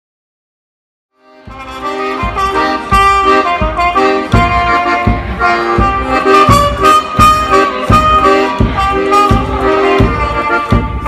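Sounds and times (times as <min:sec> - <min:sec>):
accordion chords: 0:01.2 - 0:11.0
steady low beat: 0:01.3 - 0:11.0
trumpet melody: 0:01.3 - 0:11.0.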